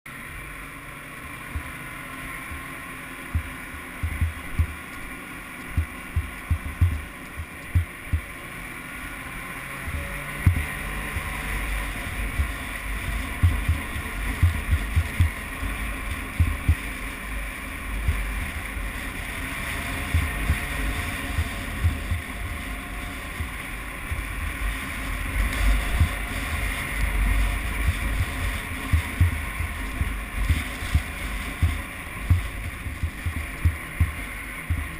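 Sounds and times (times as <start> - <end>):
snowmobile engine running: 0.1 - 34.9
wind buffeting microphone: 3.3 - 5.0, 5.7 - 8.3, 9.7 - 34.9.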